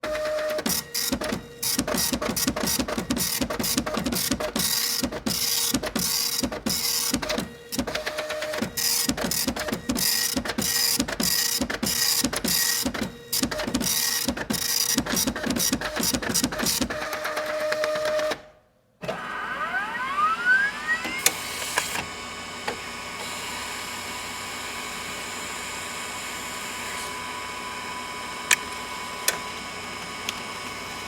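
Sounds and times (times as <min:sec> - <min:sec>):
printer printing buzzes: 0:00.0 - 0:18.4, 0:19.0 - 0:31.0.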